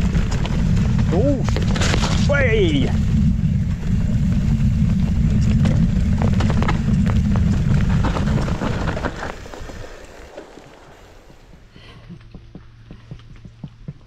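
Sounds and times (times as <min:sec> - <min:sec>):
wind rumble on microphone: 0:00.0 - 0:11.7.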